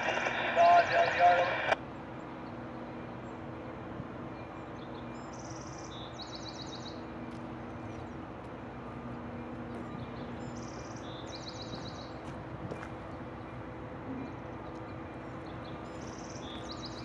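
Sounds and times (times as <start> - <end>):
distant road traffic hum: 0.0 - 17.0
songbird singing: 1.8 - 17.0.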